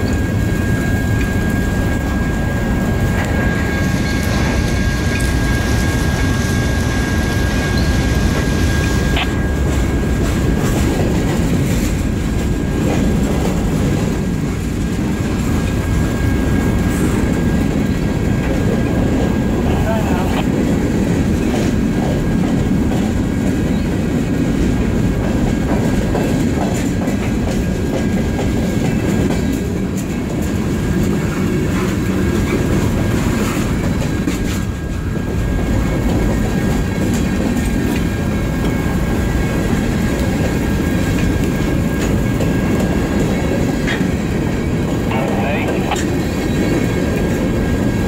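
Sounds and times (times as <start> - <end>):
freight train wheels rumbling on rail: 0.0 - 48.0.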